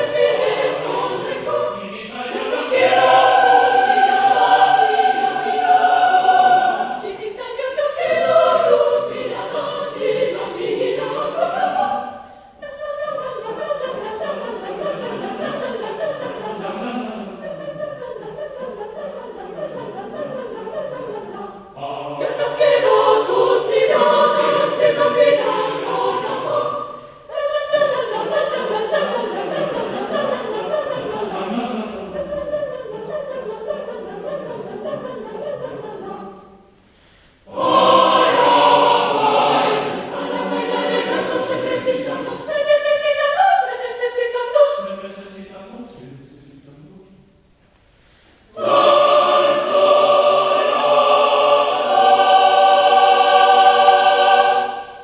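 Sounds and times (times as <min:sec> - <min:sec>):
mixed choir singing: 0:00.0 - 0:36.8, 0:37.4 - 0:46.1, 0:48.4 - 0:55.0.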